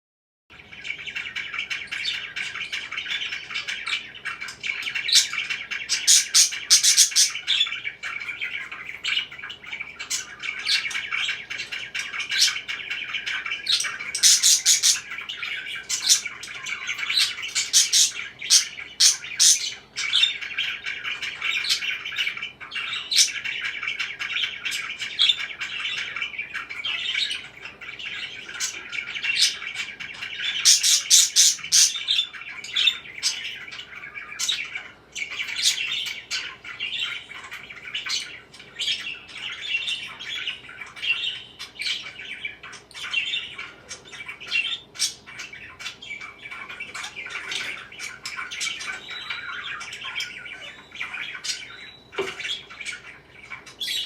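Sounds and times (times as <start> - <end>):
parakeets chattering: 0.5 - 54.0.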